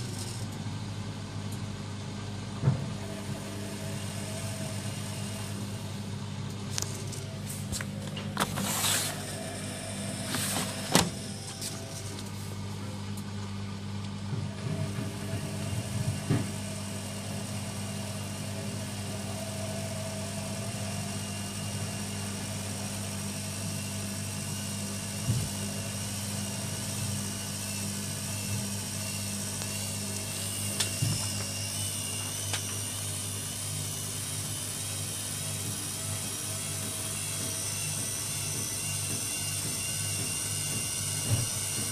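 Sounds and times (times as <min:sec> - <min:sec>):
washing machine motor humming: 0:00.0 - 0:41.9.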